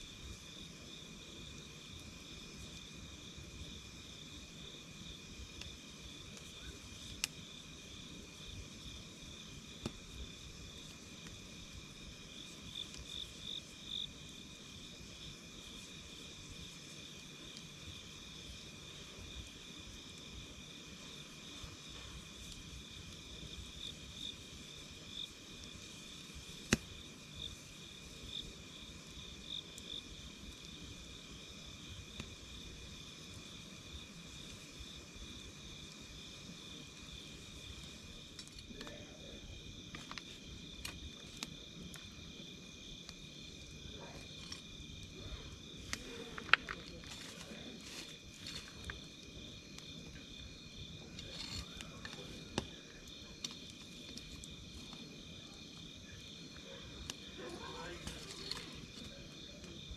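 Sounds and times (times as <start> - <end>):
campfire crackling: 0.0 - 59.9
night insects chirping: 0.0 - 59.9
sharp pops from fire: 5.2 - 59.9.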